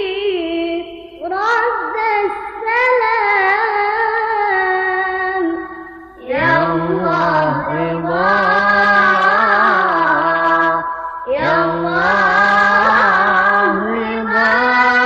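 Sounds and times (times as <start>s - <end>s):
ornamented sliding vocal-style melody: 0.0s - 15.0s.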